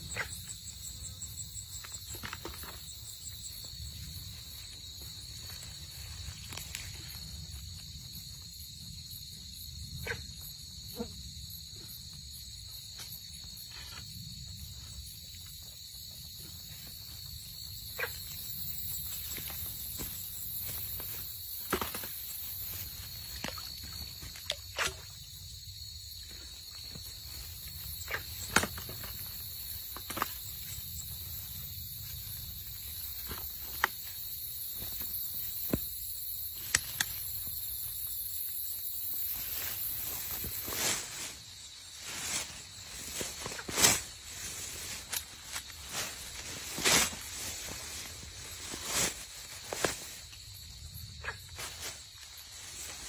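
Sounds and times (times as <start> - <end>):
high insect chorus: 0.0 - 53.0.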